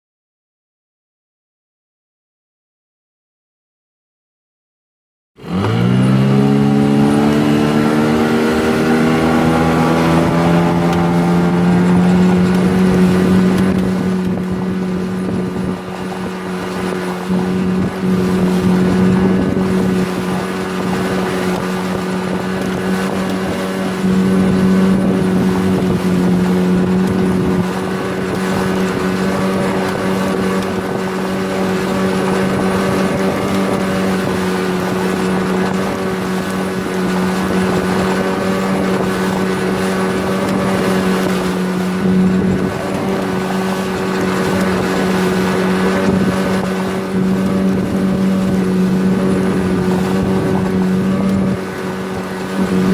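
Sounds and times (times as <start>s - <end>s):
outboard motor running: 5.4s - 52.9s.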